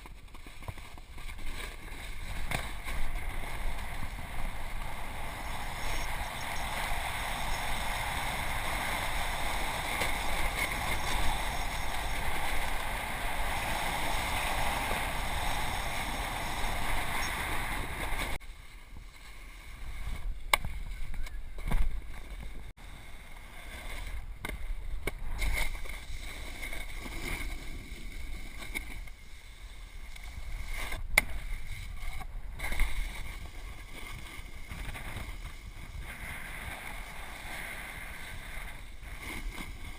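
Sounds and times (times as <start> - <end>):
snowboard scraping over snow: 0.0 - 39.9.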